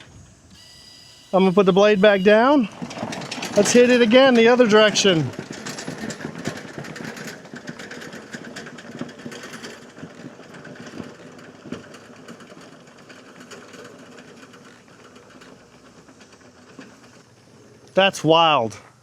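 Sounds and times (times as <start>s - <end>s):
tracked mower clattering: 1.4s - 19.0s.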